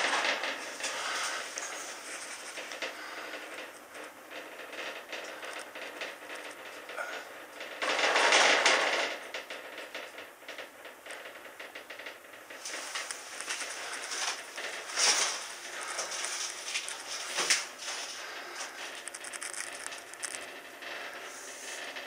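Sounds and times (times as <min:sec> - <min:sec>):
gondola cabin rattling: 0:00.0 - 0:22.0.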